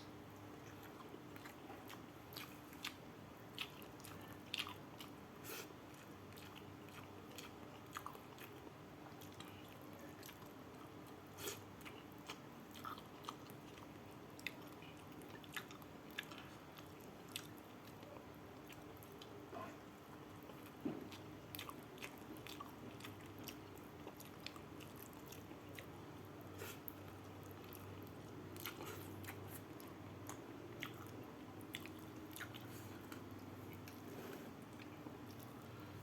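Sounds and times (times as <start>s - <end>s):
person chewing food: 0.2s - 36.0s.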